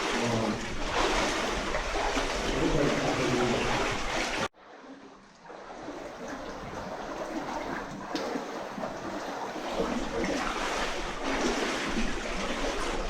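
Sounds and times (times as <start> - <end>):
rushing trickling water: 0.0 - 13.0.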